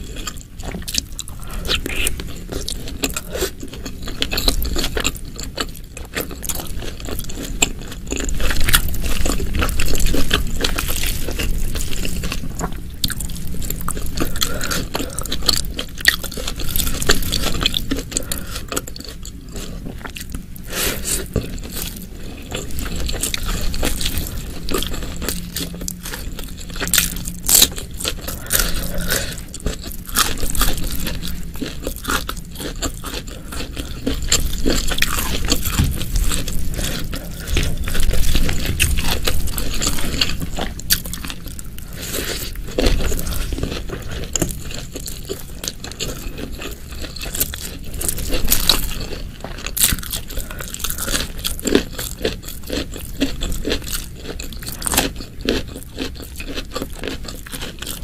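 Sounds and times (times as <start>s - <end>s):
person biting and chewing: 0.0s - 58.0s.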